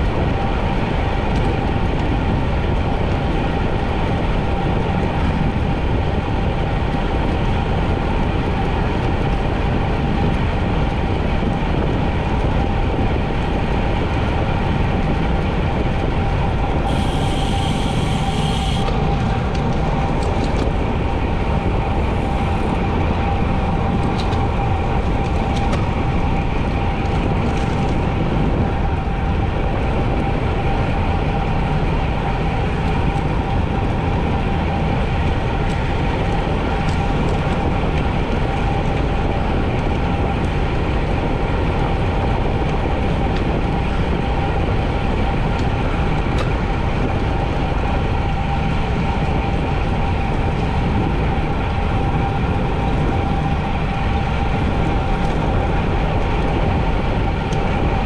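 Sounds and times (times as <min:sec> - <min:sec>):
constant whine: 0:00.0 - 0:58.0
wind rumbling on microphone: 0:00.0 - 0:58.0.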